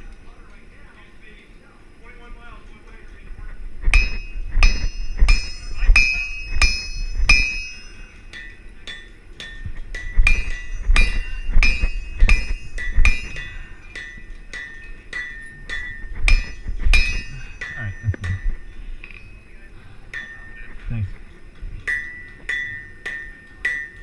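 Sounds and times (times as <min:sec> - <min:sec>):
hammer ringing on anvil: 0:03.9 - 0:21.0, 0:21.8 - 0:24.0.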